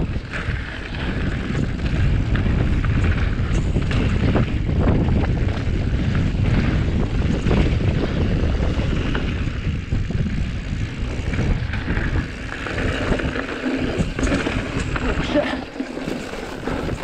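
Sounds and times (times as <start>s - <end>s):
bike knocks and rattles: 0.0s - 17.0s
bike tyres rolling on gravel: 0.0s - 17.0s
wind buffeting microphone: 0.0s - 17.0s.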